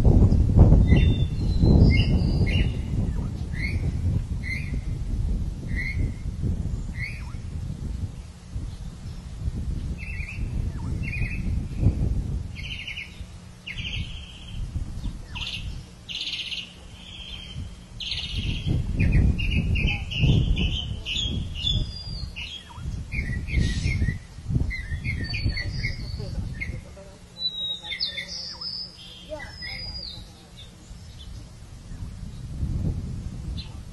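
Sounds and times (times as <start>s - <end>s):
low rumbling noise: 0.0s - 27.9s, 28.5s - 33.9s
birds chirping and squawking: 0.8s - 5.0s, 5.6s - 7.7s, 8.6s - 32.4s.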